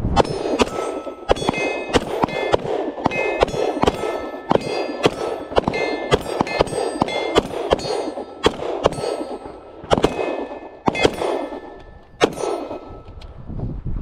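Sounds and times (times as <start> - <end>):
pistol shots: 0.0 - 13.2
short metallic ring: 0.0 - 13.4.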